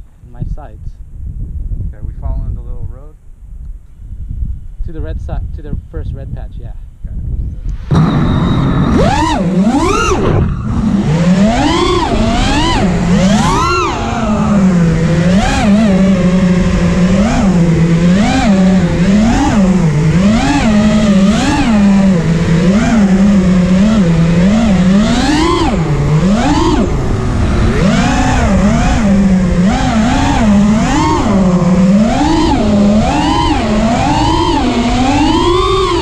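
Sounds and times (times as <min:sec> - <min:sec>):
quadcopter motors buzzing whine: 0:06.8 - 0:36.0.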